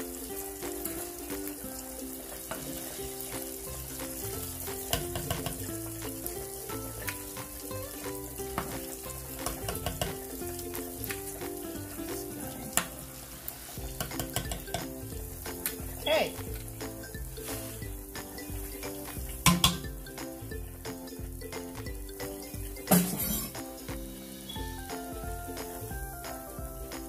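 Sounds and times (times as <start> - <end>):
background music: 0.0 - 27.0
hot oil sizzling: 0.0 - 27.0.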